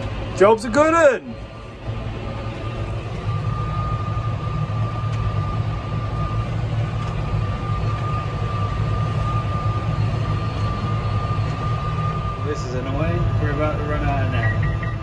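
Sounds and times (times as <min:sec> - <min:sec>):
constant high whine: 0:00.0 - 0:15.0
tractor engine hum: 0:00.0 - 0:15.0.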